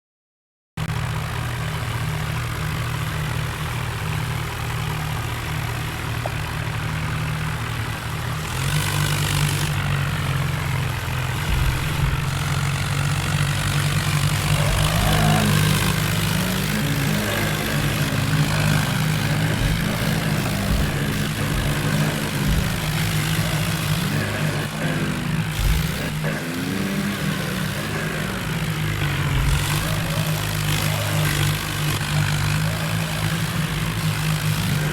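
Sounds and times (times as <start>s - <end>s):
tractor diesel engine running: 0.8s - 34.9s.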